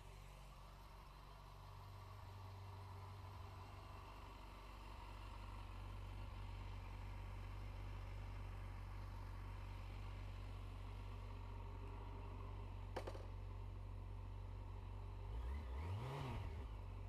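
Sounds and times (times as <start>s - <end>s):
motorcycle engine idling: 0.0s - 15.3s.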